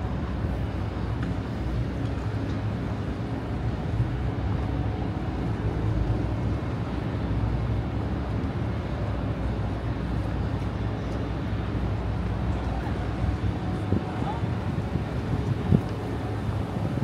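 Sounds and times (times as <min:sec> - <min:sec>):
low engine rumble: 0:00.0 - 0:17.0
outdoor noise haze: 0:00.0 - 0:17.0.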